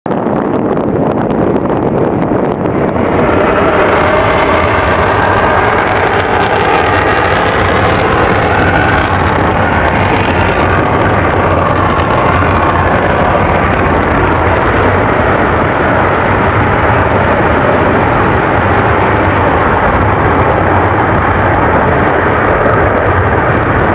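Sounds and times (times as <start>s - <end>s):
jet engine roar: 0.1s - 23.9s.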